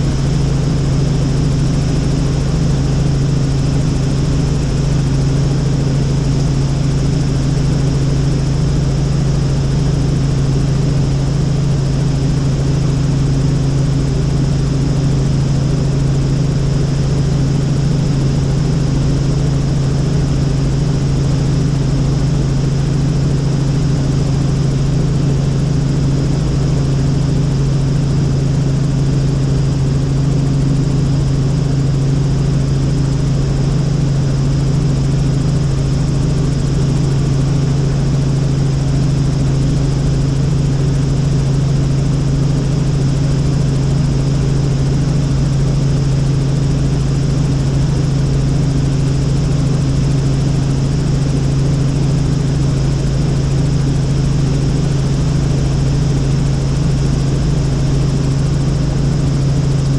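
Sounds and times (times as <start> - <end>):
helicopter droning: 0.0 - 59.9.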